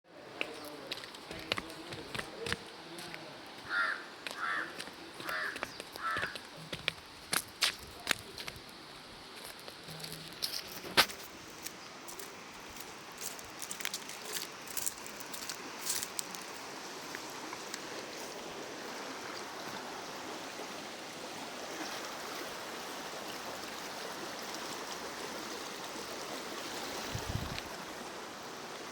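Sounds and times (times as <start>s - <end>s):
river water flowing: 0.1s - 28.9s.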